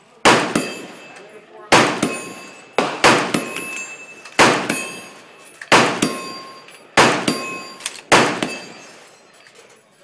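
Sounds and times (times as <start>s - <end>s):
gunshots with metallic ringing: 0.2s - 9.3s.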